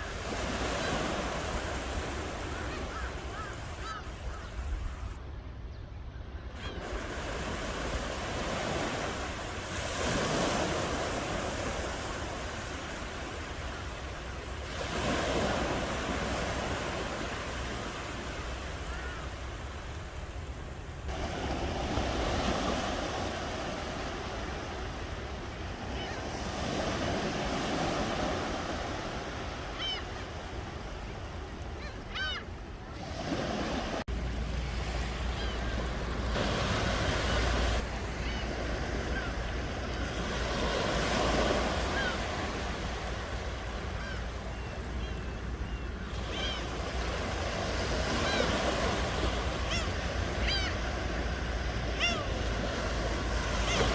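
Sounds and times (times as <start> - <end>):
ocean waves breaking on shore: 0.0 - 5.6, 6.4 - 53.9
wind: 0.0 - 53.9.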